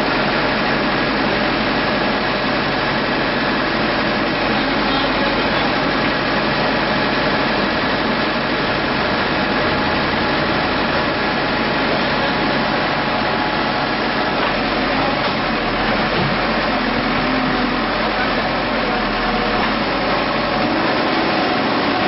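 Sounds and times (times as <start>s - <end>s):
backhoe engine running: 0.0s - 22.0s.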